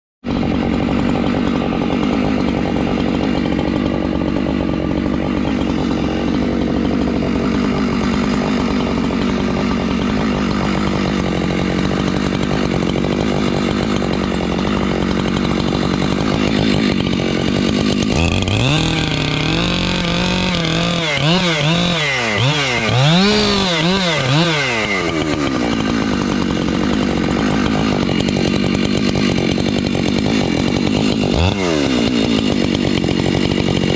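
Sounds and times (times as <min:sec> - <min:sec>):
chainsaw cutting wood: 0:00.2 - 0:33.9.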